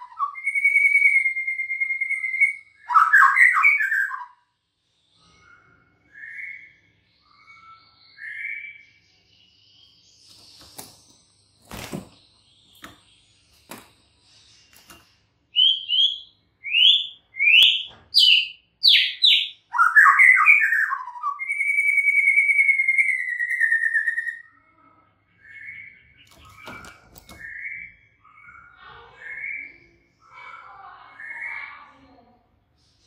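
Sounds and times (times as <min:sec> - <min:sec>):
bird singing: 0:00.0 - 0:32.0.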